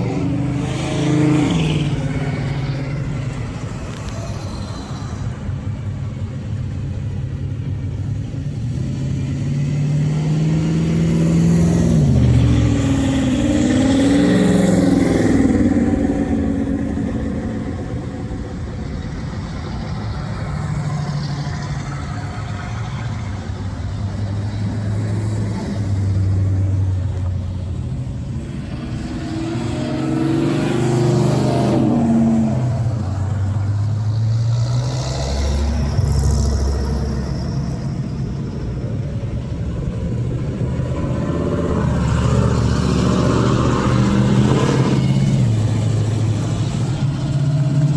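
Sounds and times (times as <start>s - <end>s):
car engines running: 0.0s - 47.9s.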